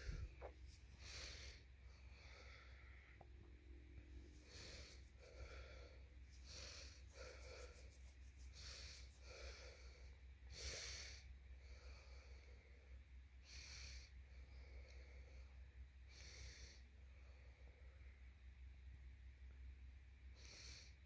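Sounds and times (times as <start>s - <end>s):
faint breaths: 0.0s - 18.3s, 20.3s - 21.0s
low steady hum: 0.0s - 21.0s.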